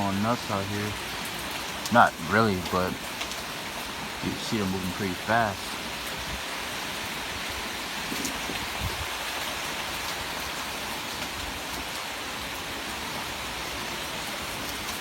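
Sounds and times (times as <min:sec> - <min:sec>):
heavy rain hissing: 0:00.0 - 0:15.0
raindrops striking close by: 0:00.0 - 0:15.0.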